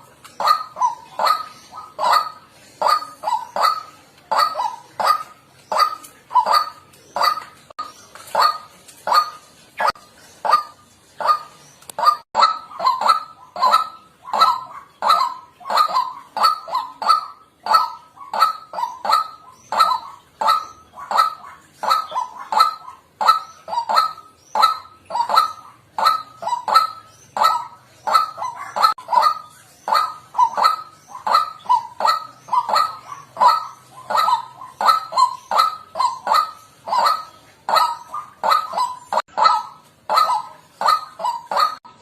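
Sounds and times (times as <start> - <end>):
waterhen harsh calls: 0.0 - 42.0.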